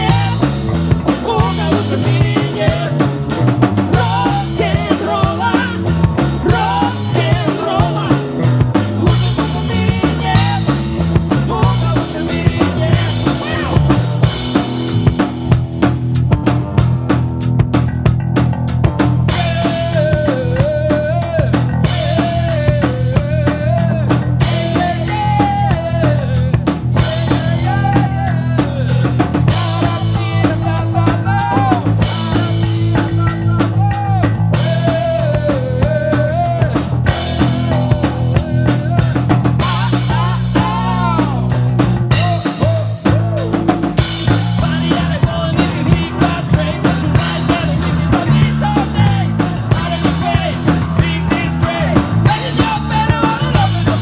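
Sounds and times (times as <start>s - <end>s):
bass guitar notes: 0.0s - 54.0s
drum kit beat: 0.0s - 54.0s.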